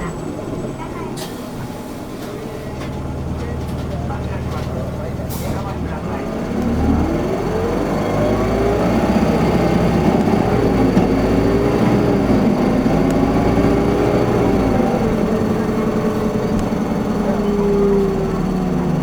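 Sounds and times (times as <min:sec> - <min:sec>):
bus diesel engine accelerating: 0:00.0 - 0:19.0.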